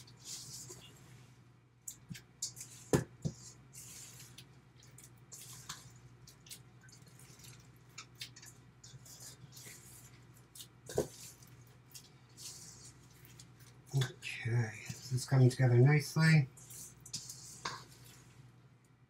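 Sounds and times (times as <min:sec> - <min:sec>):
squelching batter stirring: 0:00.0 - 0:18.8.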